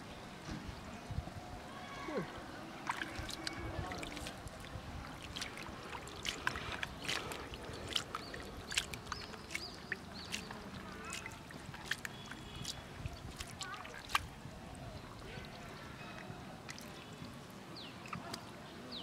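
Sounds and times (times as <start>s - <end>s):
wet mud squelching: 2.6s - 18.6s.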